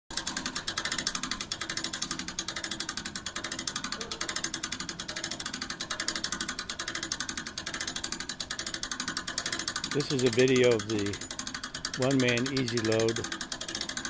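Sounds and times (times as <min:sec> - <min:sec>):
winch ratchet clicking: 0:00.1 - 0:14.0.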